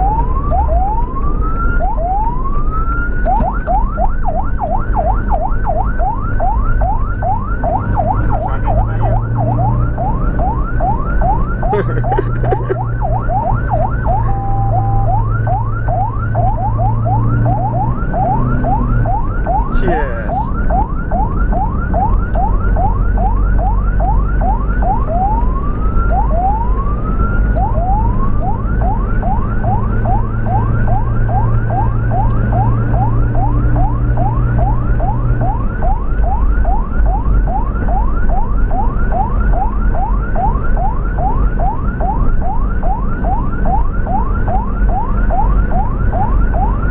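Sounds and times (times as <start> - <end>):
ambulance siren yelping: 0.0 - 46.9
engine and road rumble: 0.0 - 46.9.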